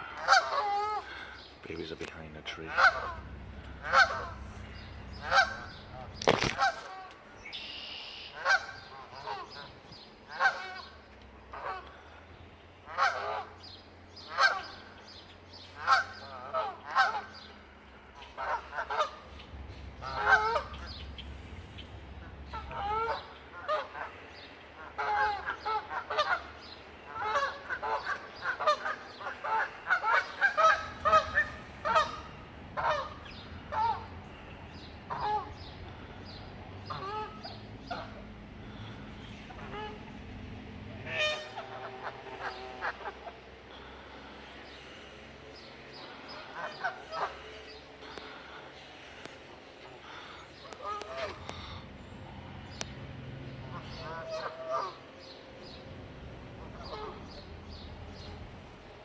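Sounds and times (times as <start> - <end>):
geese honking: 0.0 - 59.0.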